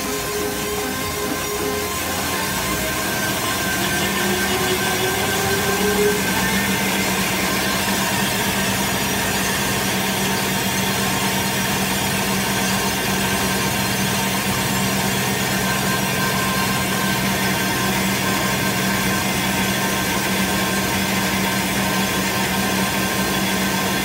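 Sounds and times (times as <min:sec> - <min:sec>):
rewinding machine humming: 0:00.0 - 0:24.0.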